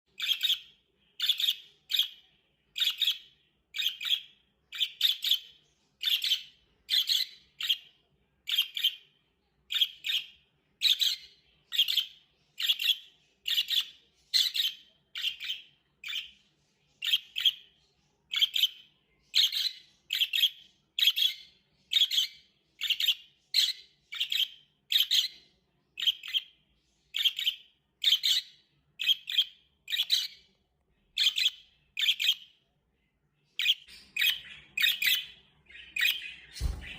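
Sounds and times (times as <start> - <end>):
budgerigar chirping: 0.1 - 9.0, 9.7 - 16.4, 17.0 - 25.4, 26.0 - 30.5, 31.2 - 32.6, 33.6 - 36.9.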